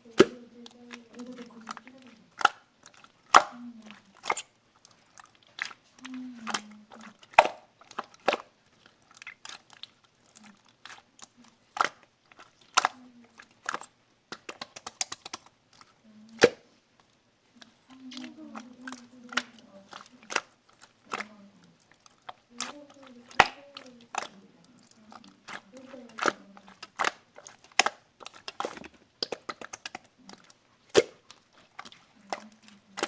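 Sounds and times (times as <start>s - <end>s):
slime squeezed by hand: 1.1s - 16.7s, 17.7s - 33.0s.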